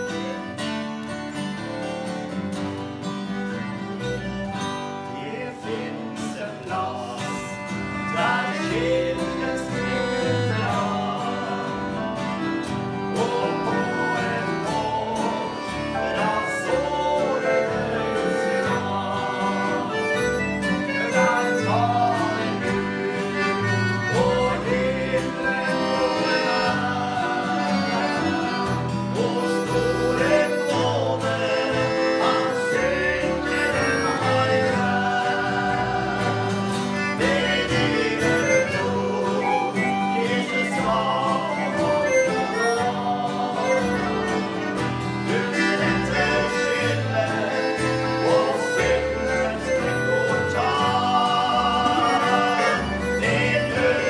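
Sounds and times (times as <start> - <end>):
strummed acoustic guitar: 0.0 - 54.0
men singing: 5.0 - 54.0.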